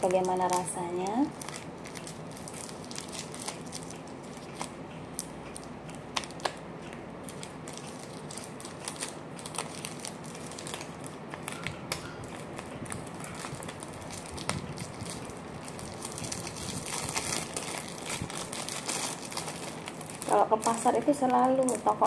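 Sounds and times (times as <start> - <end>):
plastic bag crinkling: 0.0 - 6.6, 7.2 - 22.0.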